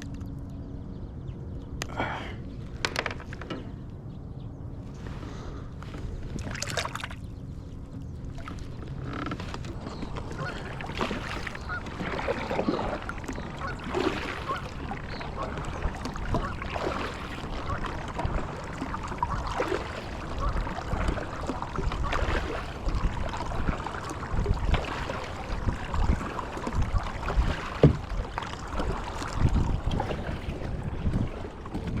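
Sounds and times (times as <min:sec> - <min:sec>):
wind rumbling on microphone: 0:00.0 - 0:32.0
water sloshing around kayak: 0:01.5 - 0:32.0.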